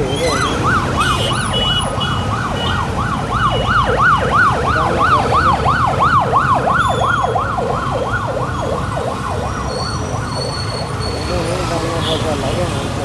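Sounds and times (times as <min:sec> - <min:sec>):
road and wind noise: 0:00.0 - 0:13.0
siren yelping: 0:00.1 - 0:11.4.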